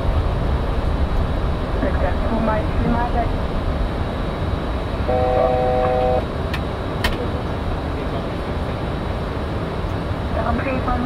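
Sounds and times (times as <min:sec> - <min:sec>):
cockpit airflow and engine hum: 0:00.0 - 0:11.0.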